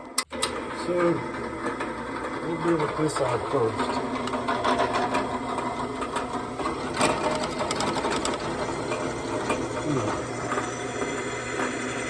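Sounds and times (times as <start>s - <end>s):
drill press motor hum: 0.0s - 12.0s
drill bit scraping metal: 0.8s - 12.0s.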